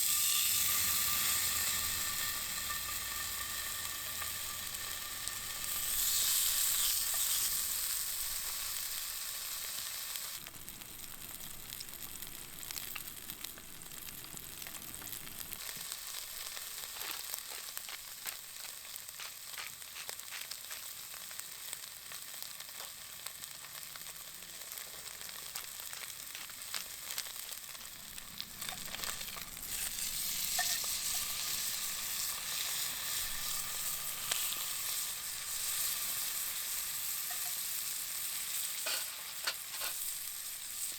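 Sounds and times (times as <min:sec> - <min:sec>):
steak sizzling on griddle: 0:00.0 - 0:40.9.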